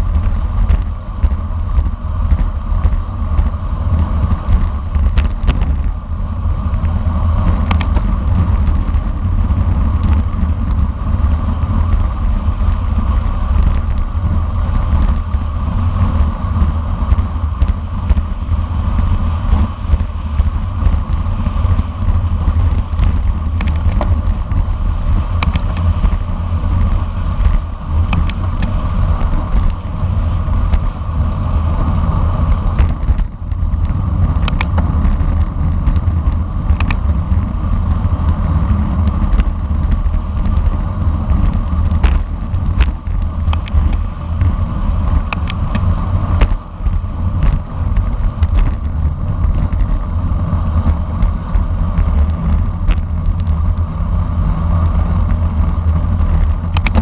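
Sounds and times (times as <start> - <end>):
road rattle: 0.0 - 57.0
wind buffeting microphone: 0.0 - 57.0.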